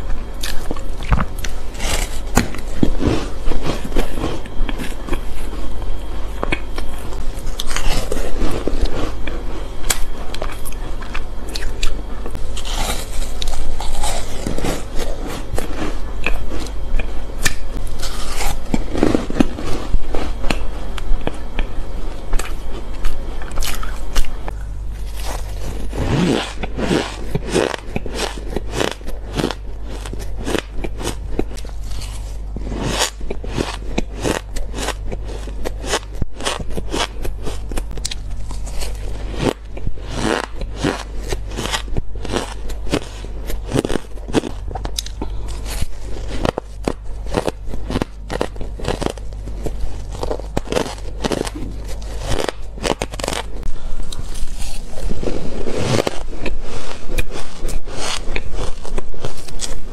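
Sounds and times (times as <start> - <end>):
chewing crunchy shaved ice: 0.0 - 59.9
steady low hum: 0.0 - 59.9.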